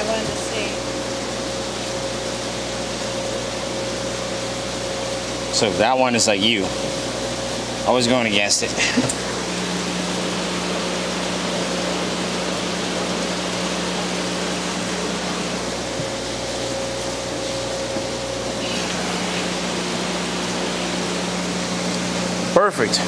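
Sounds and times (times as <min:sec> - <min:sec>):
pumps and aeration humming: 0:00.0 - 0:23.0.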